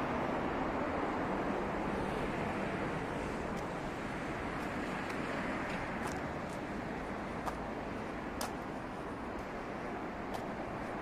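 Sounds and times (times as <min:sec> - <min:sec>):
distant road traffic: 0:00.0 - 0:11.0.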